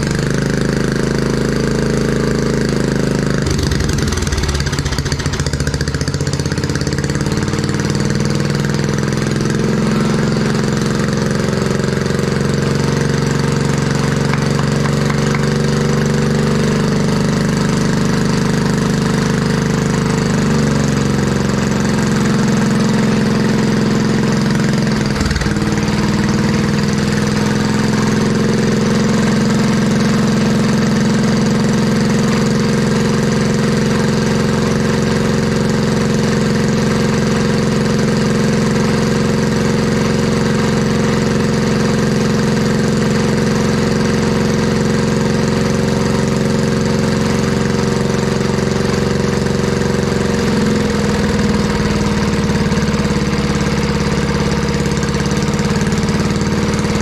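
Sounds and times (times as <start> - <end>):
small engine idling: 0.0 - 57.0.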